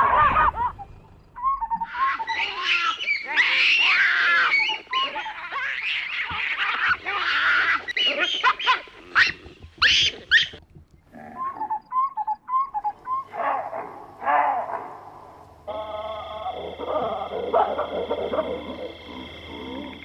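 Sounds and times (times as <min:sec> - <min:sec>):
baboons screaming and calling: 0:00.0 - 0:20.0.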